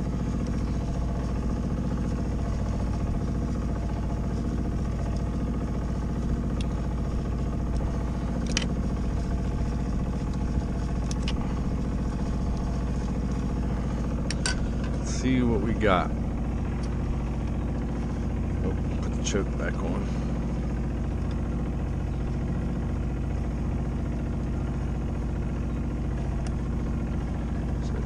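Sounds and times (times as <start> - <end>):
motor droning: 0.0 - 28.0.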